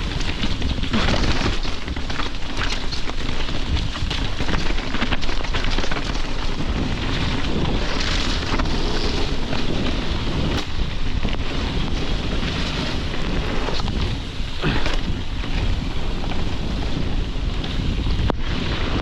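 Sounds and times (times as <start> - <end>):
bike rattling over rough ground: 0.0 - 19.0
bike tyre noise: 0.0 - 19.0
wind rushing over microphone: 0.0 - 19.0.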